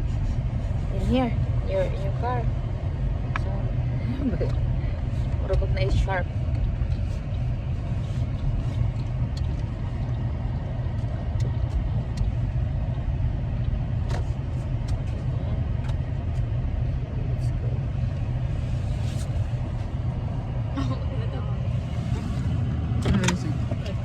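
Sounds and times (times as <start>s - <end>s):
car engine rumble: 0.0s - 24.0s
road noise: 0.0s - 24.0s.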